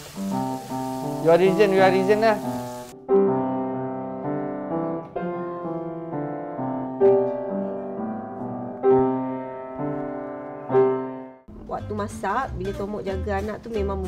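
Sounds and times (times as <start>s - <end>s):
loud piano chords: 0.0s - 11.5s
upright piano melody: 0.0s - 11.5s.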